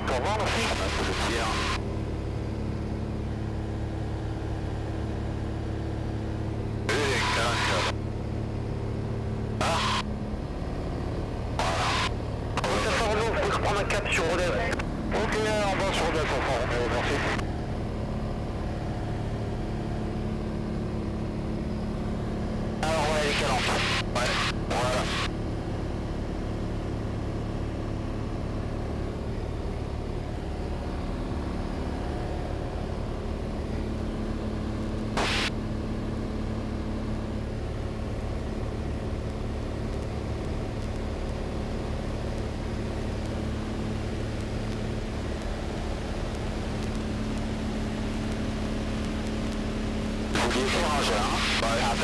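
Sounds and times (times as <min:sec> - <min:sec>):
propeller plane engine droning: 0:00.0 - 0:52.0.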